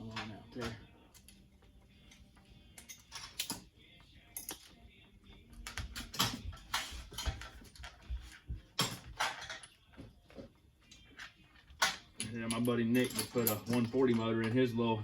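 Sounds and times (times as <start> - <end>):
metal parts clicking and rattling: 0.0 - 4.8, 5.5 - 10.0, 10.8 - 14.7.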